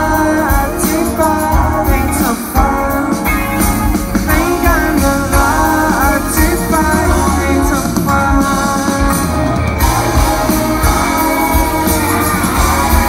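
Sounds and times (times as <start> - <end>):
drum kit: 0.0 - 13.0
electric guitar: 0.0 - 13.0
keyboard: 0.0 - 13.0
man singing lead vocal: 0.0 - 13.0.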